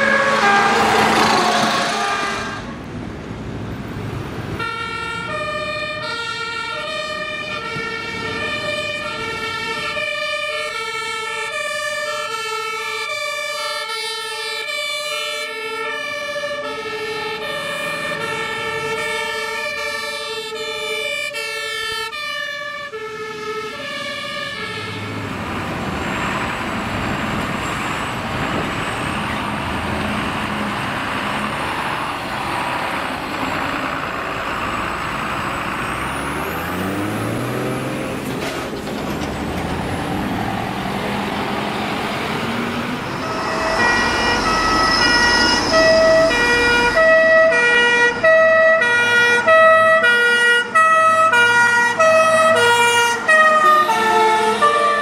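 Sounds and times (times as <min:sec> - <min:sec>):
two-tone fire engine siren: 0:00.0 - 0:02.8, 0:04.4 - 0:38.2, 0:39.4 - 0:55.0
diesel truck driving past: 0:00.0 - 0:55.0.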